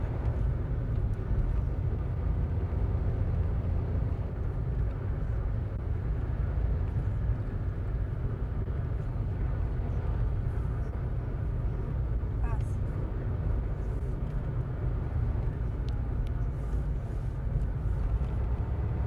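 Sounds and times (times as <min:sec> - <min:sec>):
tyres on concrete road: 0:00.0 - 0:19.0.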